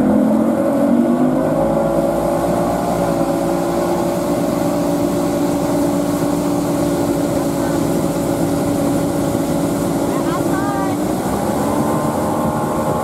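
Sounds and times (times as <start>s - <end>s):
boat engine: 0.0s - 13.0s.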